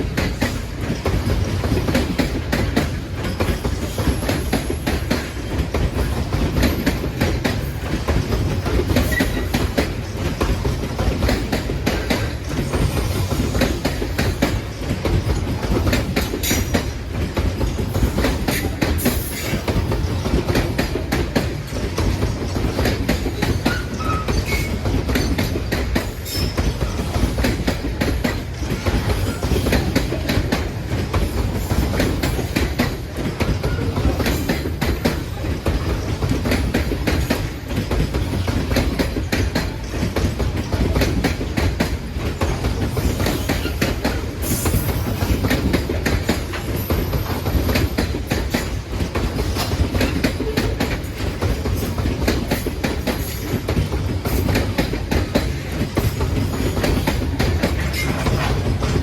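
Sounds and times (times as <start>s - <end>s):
freight train rumbling past: 0.0s - 59.0s
wheels clattering on rails: 0.0s - 59.0s.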